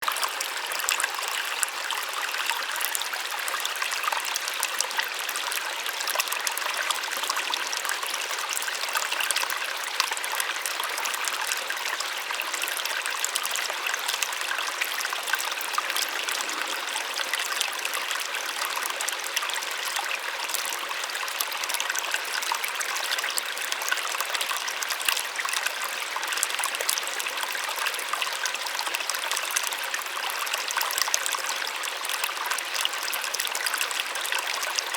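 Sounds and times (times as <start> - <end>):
small waterfall splashing: 0.0 - 34.9.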